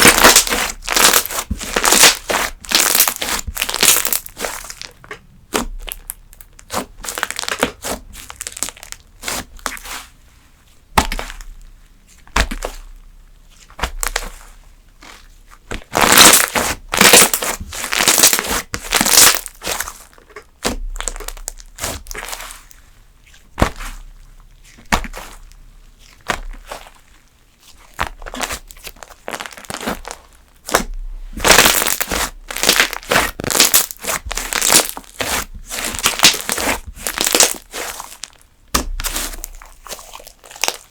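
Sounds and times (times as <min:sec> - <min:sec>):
slime crackling and popping: 0:00.0 - 0:10.0, 0:11.0 - 0:13.0, 0:13.7 - 0:22.8, 0:27.8 - 0:40.9.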